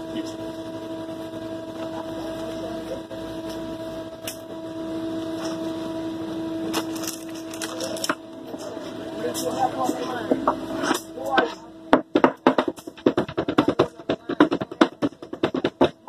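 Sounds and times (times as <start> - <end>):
electrical hum of kitchen equipment: 0.0 - 16.0.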